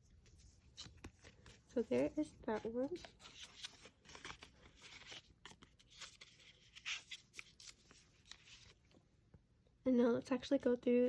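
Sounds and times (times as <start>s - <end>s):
paper cards rustling: 0.1s - 9.0s.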